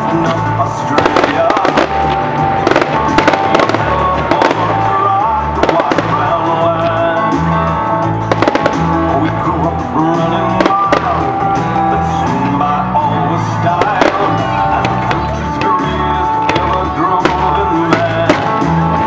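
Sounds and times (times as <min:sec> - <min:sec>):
fireworks bursting: 0:00.0 - 0:07.5, 0:08.2 - 0:09.5, 0:10.5 - 0:12.4, 0:13.7 - 0:19.0
music with bass line: 0:00.0 - 0:19.0.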